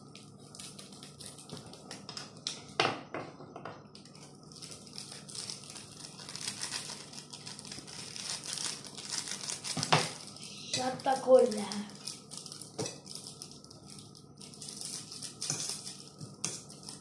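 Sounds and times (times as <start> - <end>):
scissors snipping foil sachets: 0.2 - 2.0, 4.1 - 17.0
foil crinkling: 0.2 - 2.1, 4.0 - 17.0.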